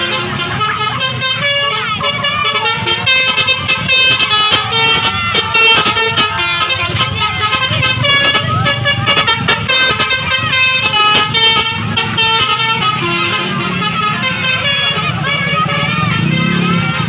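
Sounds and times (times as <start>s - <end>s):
multi-tone musical bus horn: 0.0s - 17.0s.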